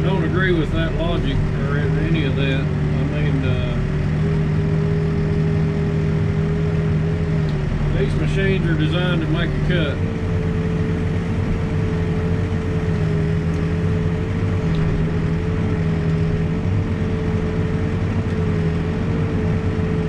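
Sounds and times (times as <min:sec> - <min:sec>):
diesel engine droning: 0:00.0 - 0:20.0
steady whine: 0:00.0 - 0:20.0.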